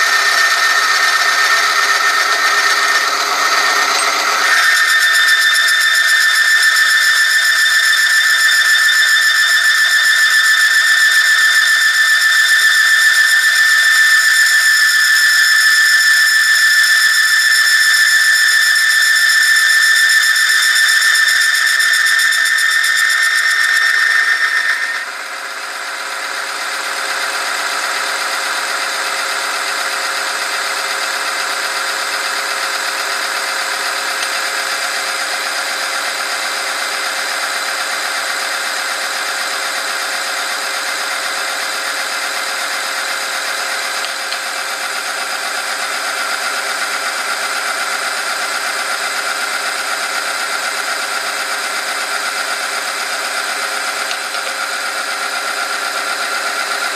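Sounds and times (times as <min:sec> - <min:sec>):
test machine running: 0:00.0 - 0:36.1, 0:40.5 - 0:56.9
high-pitched squeal: 0:00.0 - 0:56.9.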